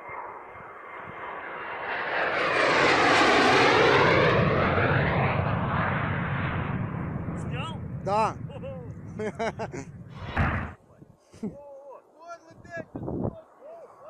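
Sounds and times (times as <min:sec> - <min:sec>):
jet flying past low: 0:00.0 - 0:11.2, 0:12.0 - 0:14.0.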